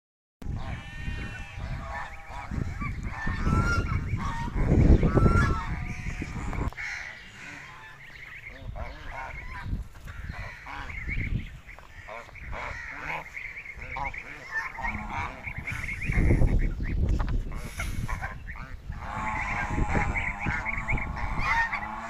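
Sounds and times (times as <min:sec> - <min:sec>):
geese honking: 0:00.4 - 0:22.0.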